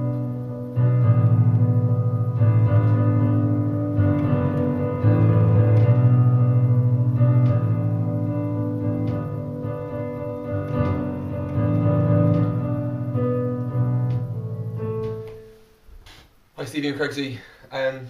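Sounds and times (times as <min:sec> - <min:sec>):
piano chords on keyboard: 0:00.0 - 0:16.0.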